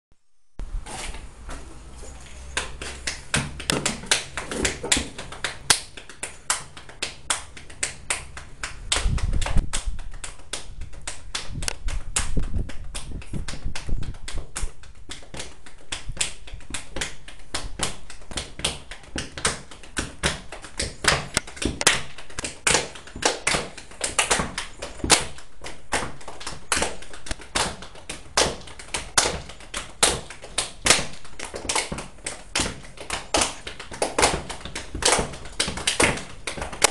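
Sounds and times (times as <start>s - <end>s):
hands clapping and slapping: 2.5s - 36.9s.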